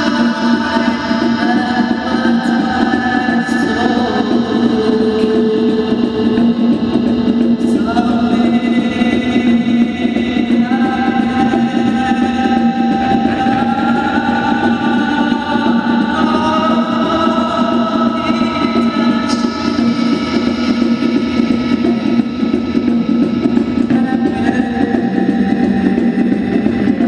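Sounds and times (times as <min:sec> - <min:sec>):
band playing slow droning music: 0:00.0 - 0:27.0.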